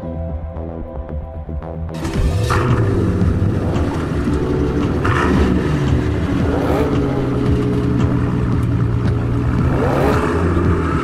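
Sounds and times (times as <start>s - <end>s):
car engine idling and revving: 1.9s - 11.0s.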